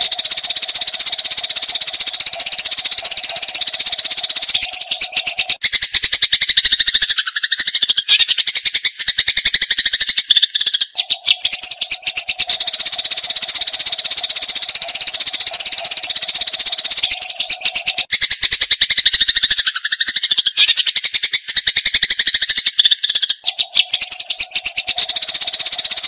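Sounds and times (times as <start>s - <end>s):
sparrow rapid chatter: 0.0s - 26.0s.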